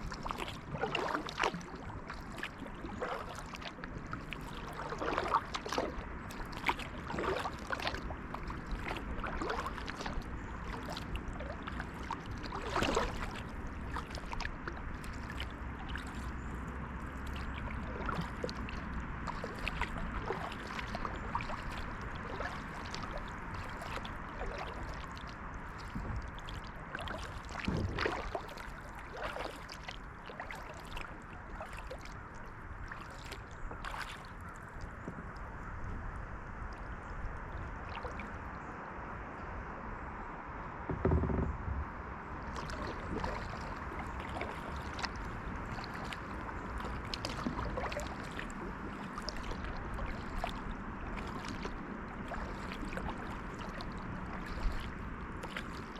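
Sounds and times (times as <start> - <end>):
moving water wash: 0.0 - 35.6, 36.3 - 39.1, 42.3 - 55.9
paddle strokes splashing: 0.0 - 38.6, 42.3 - 55.9.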